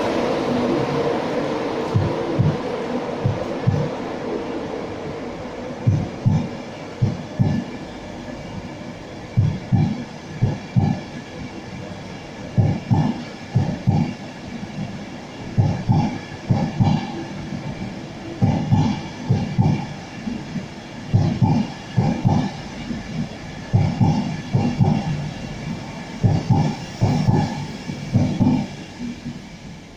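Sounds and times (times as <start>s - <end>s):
train wheels clattering over rail joints: 1.8s - 4.0s, 5.8s - 29.6s.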